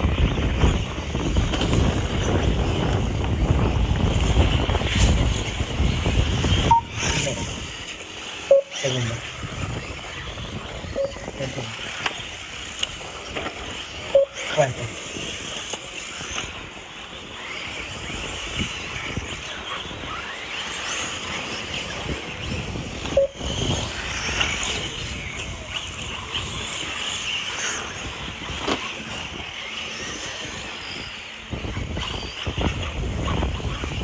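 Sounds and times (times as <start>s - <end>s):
rc buggy motors whining: 0.0s - 34.0s.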